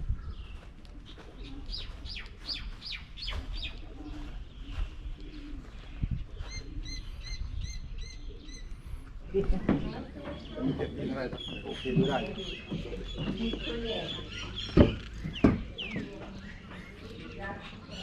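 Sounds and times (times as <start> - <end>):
doves cooing: 0.2 - 18.0.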